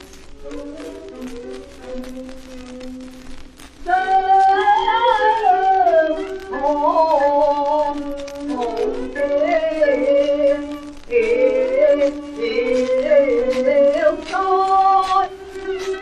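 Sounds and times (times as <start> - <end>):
old popular song on record: 0.0 - 16.0
record surface crackle: 0.0 - 16.0.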